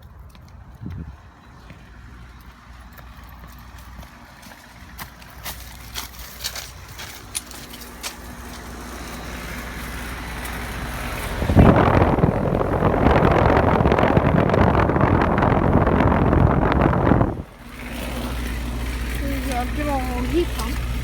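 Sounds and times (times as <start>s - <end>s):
heat pump fan and compressor: 0.1s - 21.0s.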